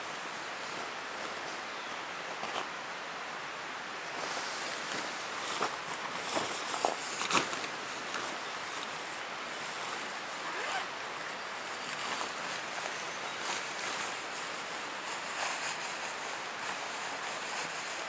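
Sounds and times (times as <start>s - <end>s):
nylon tent fabric rustling: 0.0s - 2.8s, 4.1s - 18.0s.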